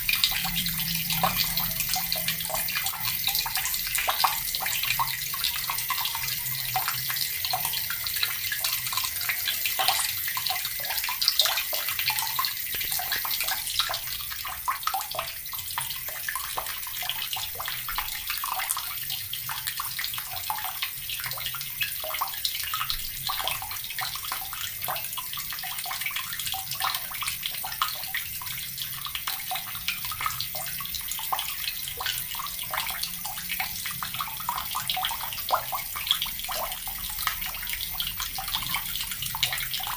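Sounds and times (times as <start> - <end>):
tap water splashing into bucket: 0.0 - 39.9.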